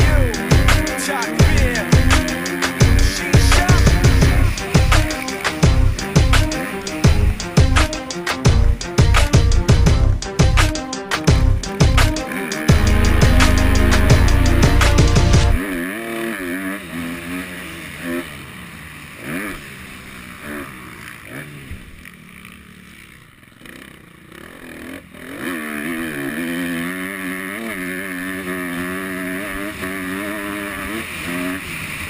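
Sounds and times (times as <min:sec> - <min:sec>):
motocross bike engine revving: 0:00.0 - 0:32.0.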